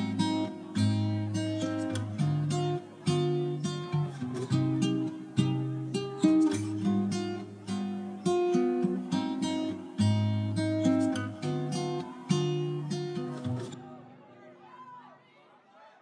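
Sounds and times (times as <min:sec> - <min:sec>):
acoustic guitar music: 0:00.0 - 0:14.4.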